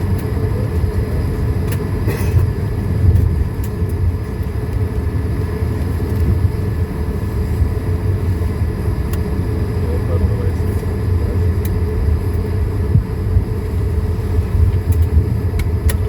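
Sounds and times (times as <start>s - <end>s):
aircraft cabin low rumble: 0.0s - 16.0s.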